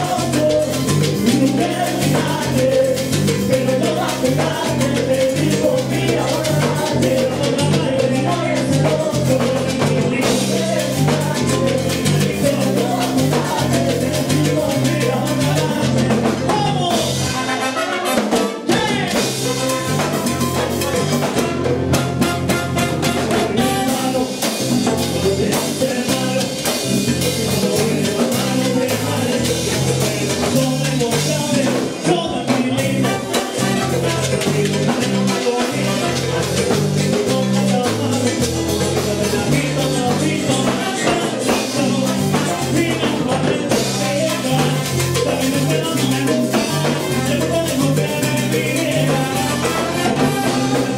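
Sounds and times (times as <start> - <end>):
salsa orchestra playing: 0.0 - 50.9.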